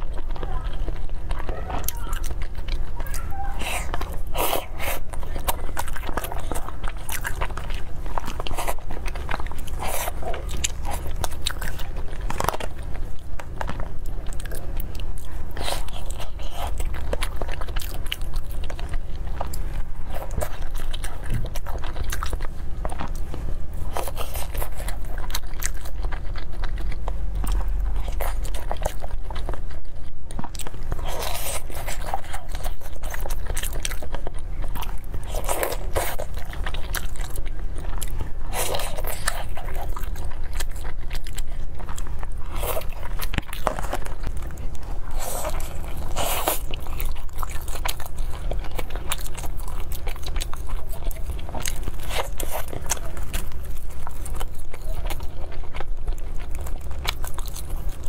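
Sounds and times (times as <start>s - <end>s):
biting and chewing soft food: 0.0s - 58.0s.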